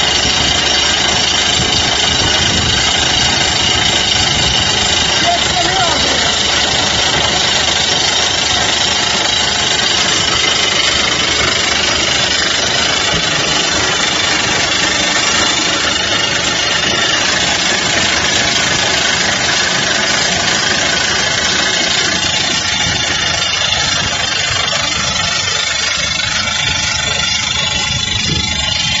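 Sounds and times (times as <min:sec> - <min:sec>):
excavator engine: 0:00.0 - 0:29.0
rock drill drilling into rock: 0:00.0 - 0:29.0.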